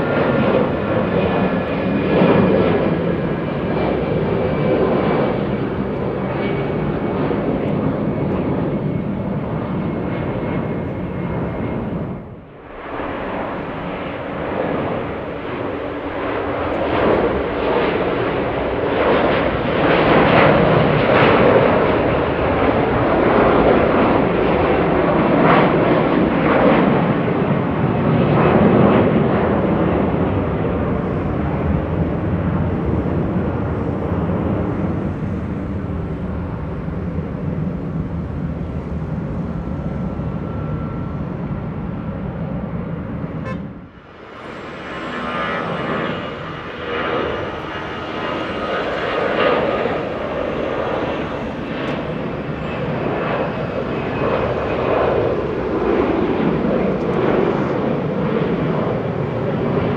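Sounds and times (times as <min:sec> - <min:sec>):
jet airliner engines roaring: 0:00.0 - 0:59.9.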